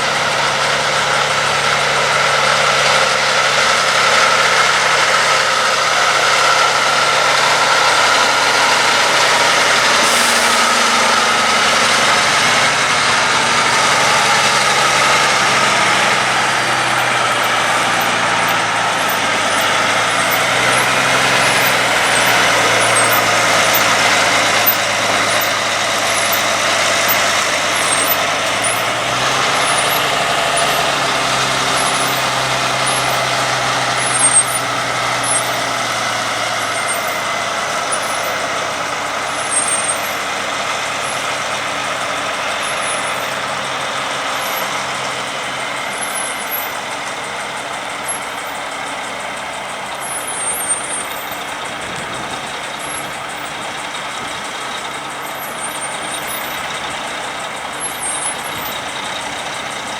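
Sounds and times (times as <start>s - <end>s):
diesel truck engines under load: 0.0s - 59.9s
tyre and road noise: 0.0s - 59.9s.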